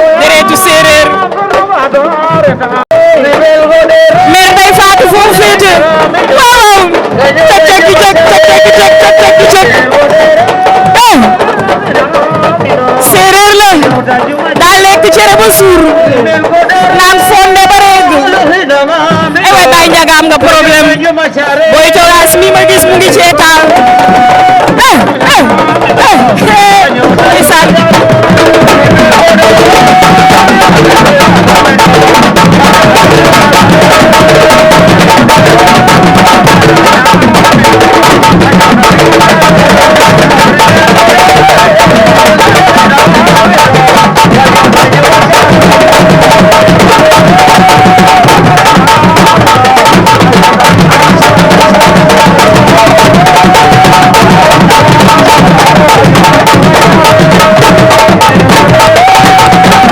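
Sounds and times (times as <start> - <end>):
drum ensemble fast rhythm: 0.0 - 59.9.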